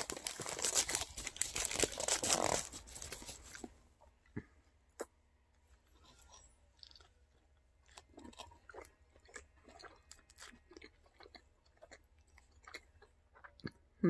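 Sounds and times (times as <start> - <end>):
person chewing food: 0.0 - 5.2, 5.8 - 14.0.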